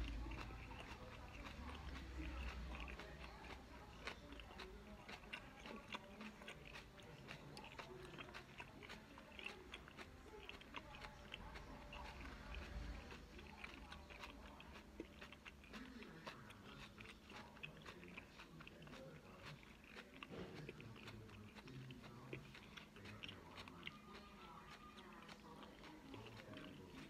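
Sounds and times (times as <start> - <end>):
person chewing kale: 0.0 - 27.0.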